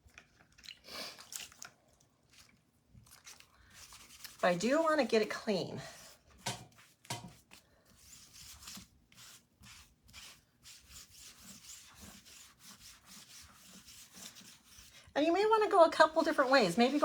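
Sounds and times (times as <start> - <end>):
sponge rubbing on screen: 3.2 - 17.0.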